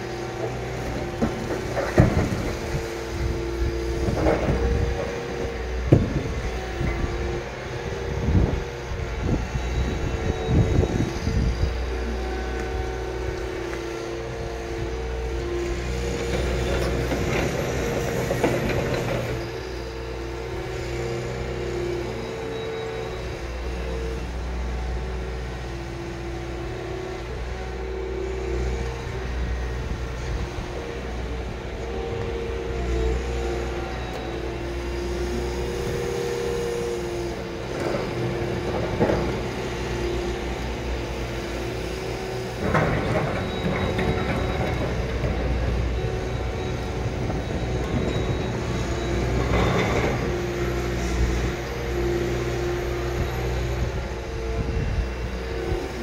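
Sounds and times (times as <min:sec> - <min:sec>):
excavator engine droning: 0:00.0 - 0:56.0.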